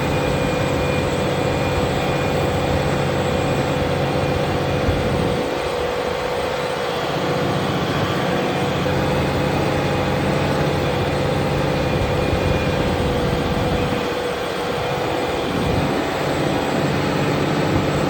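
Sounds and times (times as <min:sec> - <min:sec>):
steady whine: 0:00.0 - 0:18.0
tractor engine running: 0:00.0 - 0:18.0.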